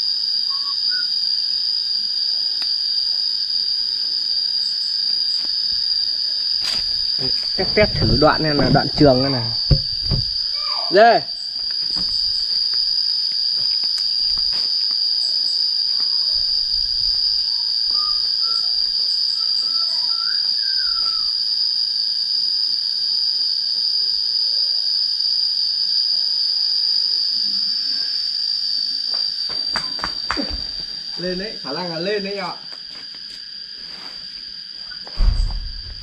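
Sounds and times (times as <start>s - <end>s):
high-pitched insect drone: 0.0s - 36.0s.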